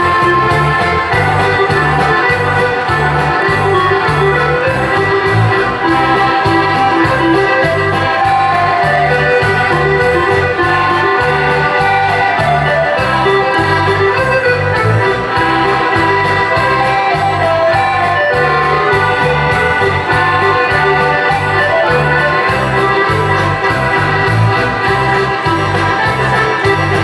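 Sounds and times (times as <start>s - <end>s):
folk dance music: 0.0s - 27.0s
keyboard melody: 0.0s - 27.0s
pulsing bass: 0.0s - 27.0s.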